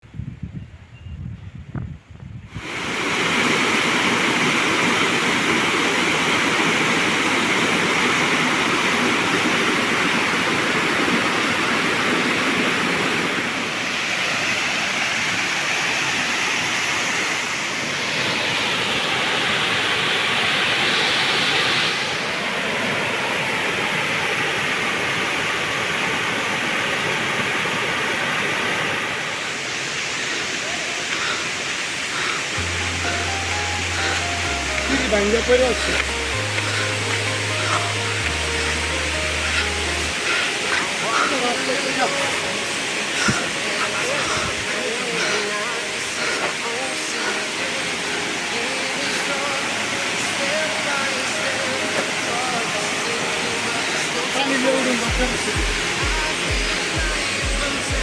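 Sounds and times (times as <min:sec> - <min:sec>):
waterfall rushing: 0:02.6 - 0:58.0.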